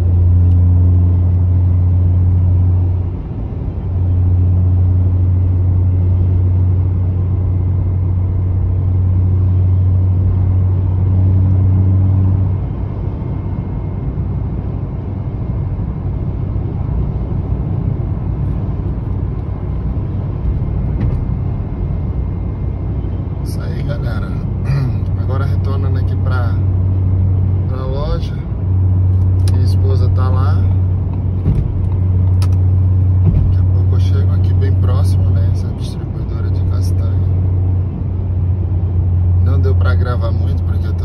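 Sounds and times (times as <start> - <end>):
car cabin engine and road drone: 0.0 - 41.0.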